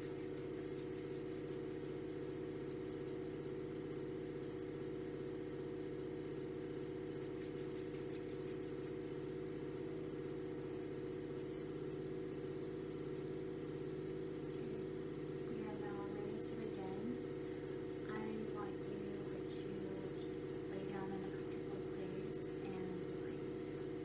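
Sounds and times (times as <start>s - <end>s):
low droning hum: 0.0s - 24.0s.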